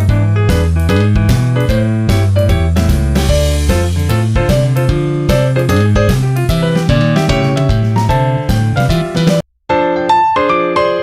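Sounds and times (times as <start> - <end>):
steady drum beat: 0.0 - 9.4
upbeat instrumental music: 0.0 - 10.9.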